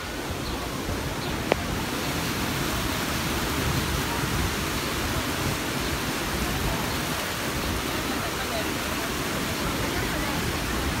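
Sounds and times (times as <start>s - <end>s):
water rushing over low weirs: 0.0s - 11.0s.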